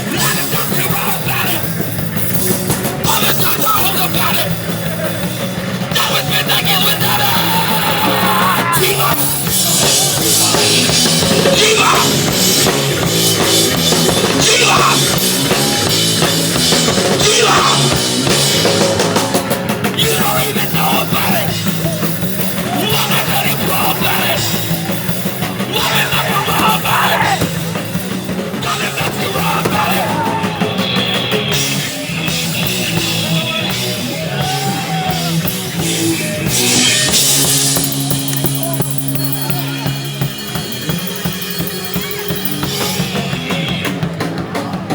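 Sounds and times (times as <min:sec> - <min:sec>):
pounding drum kit: 0:00.0 - 0:44.9
punk band playing live: 0:00.0 - 0:44.9.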